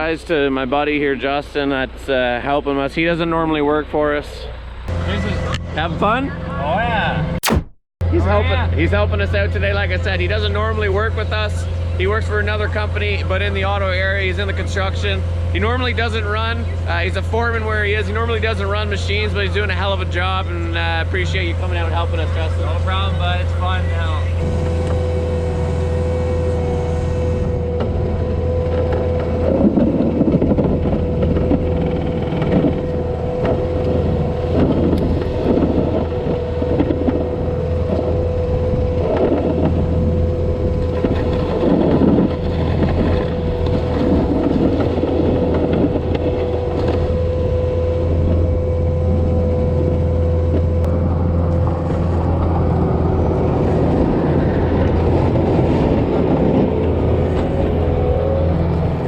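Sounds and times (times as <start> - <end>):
diesel engine running: 0.0 - 59.0
steady machine whine: 4.6 - 12.0, 18.2 - 59.0.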